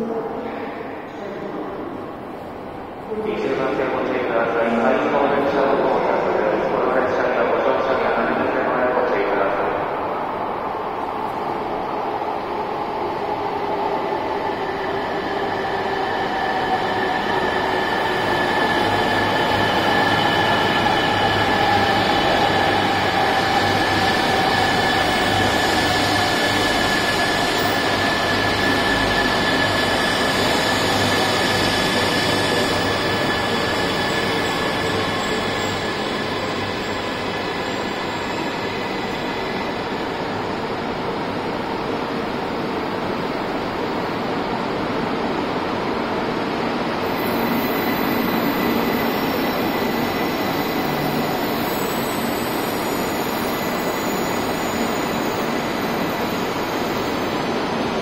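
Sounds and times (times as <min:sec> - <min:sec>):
train rushing through station: 0:00.0 - 0:58.0.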